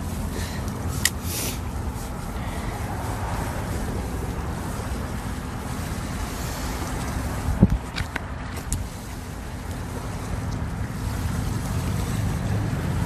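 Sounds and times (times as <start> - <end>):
wind on microphone: 1.6 - 13.0.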